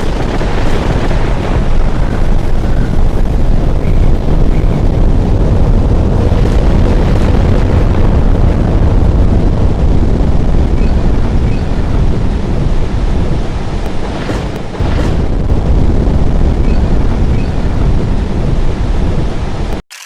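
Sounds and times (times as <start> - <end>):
strong wind on microphone: 0.0 - 19.8.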